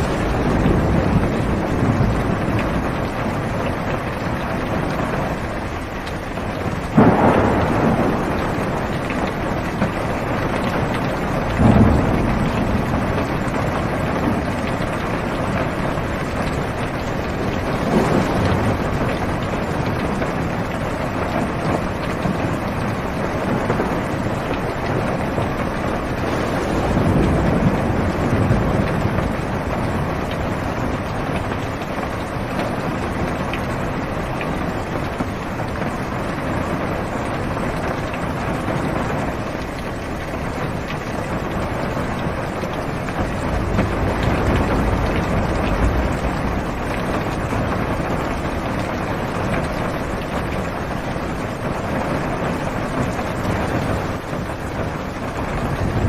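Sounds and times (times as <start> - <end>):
heavy rain on car roof: 0.0 - 56.0
thunder rolling: 0.0 - 56.0.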